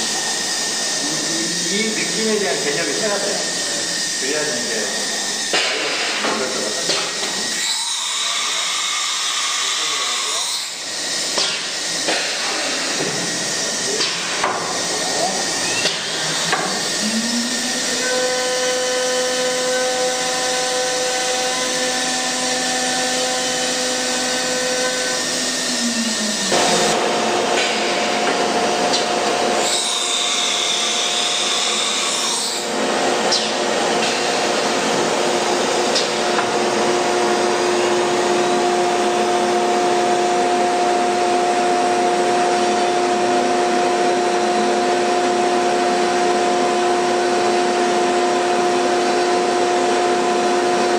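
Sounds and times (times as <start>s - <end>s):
router spindle whine: 0.0s - 14.0s, 14.6s - 50.9s.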